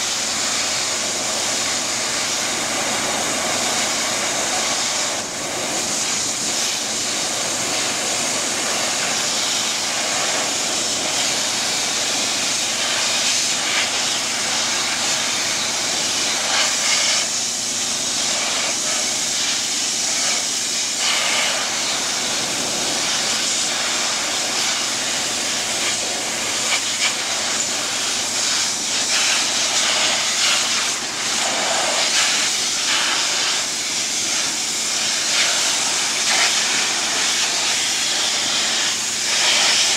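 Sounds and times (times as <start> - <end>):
pressure washer spraying metal: 0.0 - 39.9.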